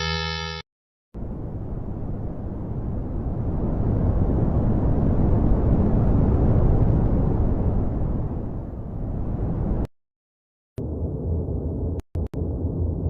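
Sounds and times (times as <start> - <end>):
deep rumbling noise: 1.2 - 9.9, 10.8 - 13.0.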